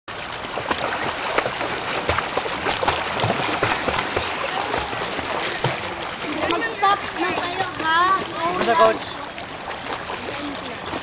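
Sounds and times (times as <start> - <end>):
pool water splashing: 0.1 - 11.0.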